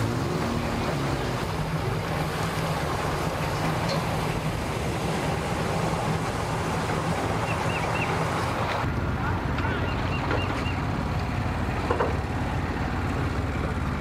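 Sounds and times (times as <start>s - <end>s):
outboard motors droning: 0.0s - 14.0s
water churning behind boat: 0.0s - 14.0s.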